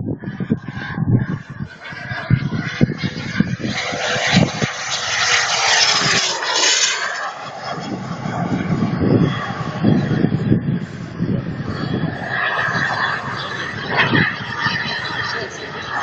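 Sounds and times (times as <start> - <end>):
model jet turbine rushing past: 0.0 - 16.0.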